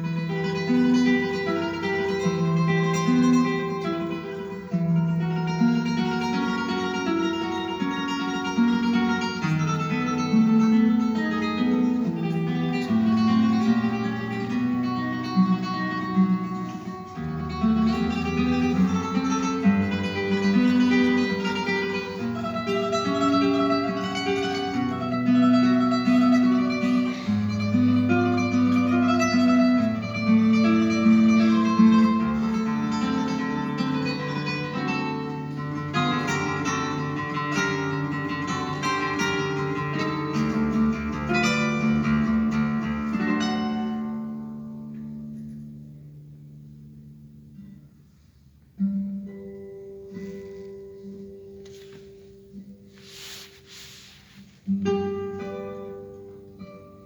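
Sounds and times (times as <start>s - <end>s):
classical guitar tremolo: 0.0s - 57.0s.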